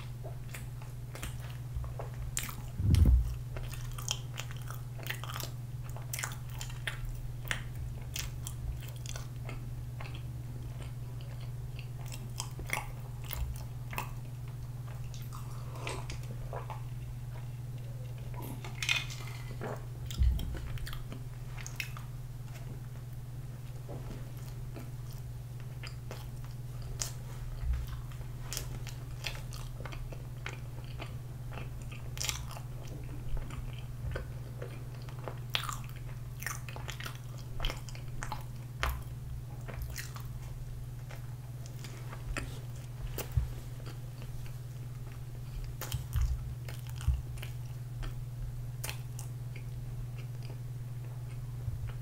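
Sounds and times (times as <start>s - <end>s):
person chewing bread: 0.0s - 52.0s
steady low hum: 0.0s - 52.0s.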